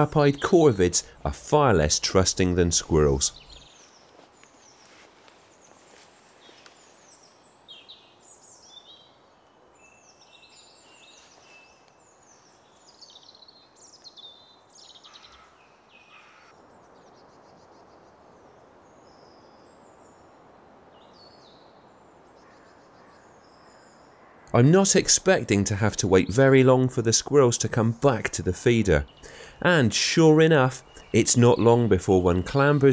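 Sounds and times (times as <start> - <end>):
faint background hiss: 0.0 - 32.9
songbirds chirping and trilling: 0.0 - 32.9.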